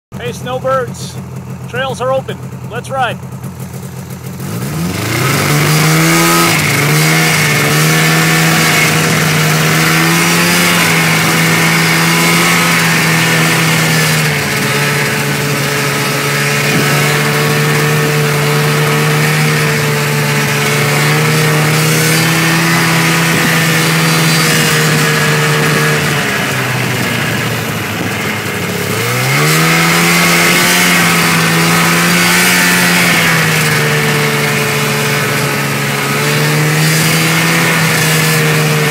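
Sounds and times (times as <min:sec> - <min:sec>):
snowmobile engine revving: 0:00.2 - 0:38.9.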